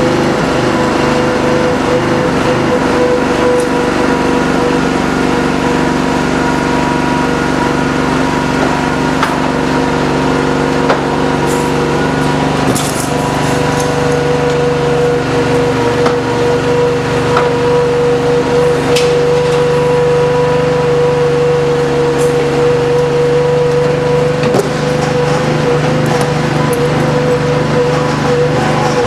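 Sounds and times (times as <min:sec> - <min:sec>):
gas engine running: 0:00.0 - 0:29.0
hydraulic pump whine: 0:00.0 - 0:29.0.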